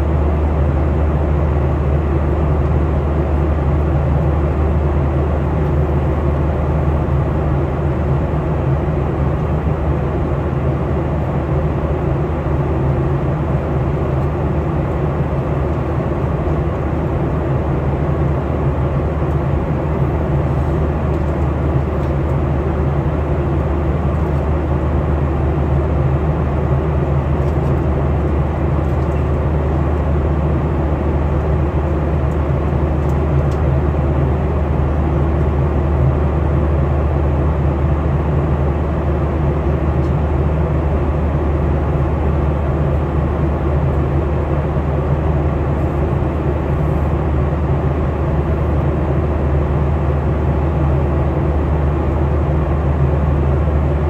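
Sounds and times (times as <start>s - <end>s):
airliner cabin engine drone: 0.0s - 54.0s.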